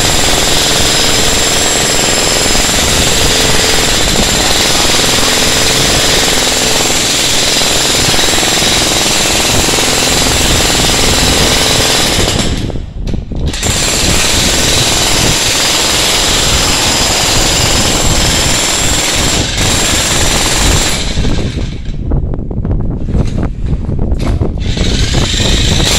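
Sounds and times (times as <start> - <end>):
demolition hammer pounding concrete: 0.0 - 22.2, 23.0 - 25.9.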